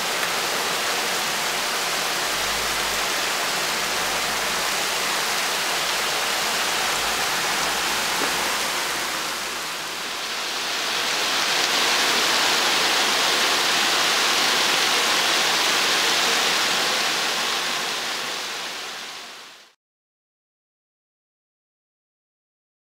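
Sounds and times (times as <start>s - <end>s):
heavy rain on rooftops: 0.0s - 19.8s.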